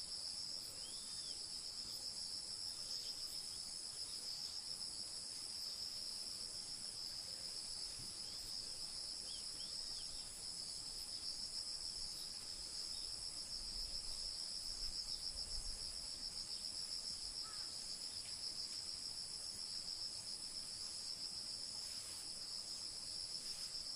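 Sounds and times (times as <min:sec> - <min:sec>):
insects trilling: 0:00.2 - 0:23.9.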